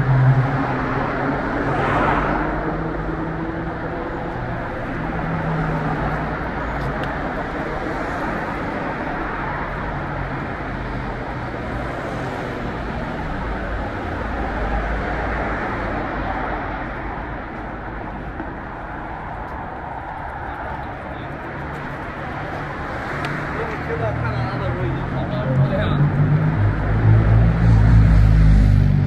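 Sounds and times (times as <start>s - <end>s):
street traffic rumble: 0.0s - 29.0s.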